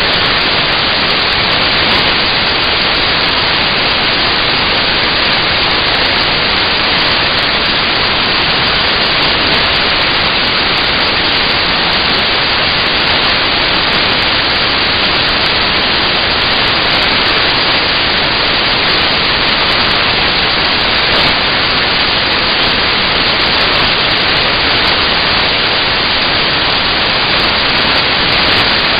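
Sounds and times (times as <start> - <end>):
static hiss: 0.0 - 28.9.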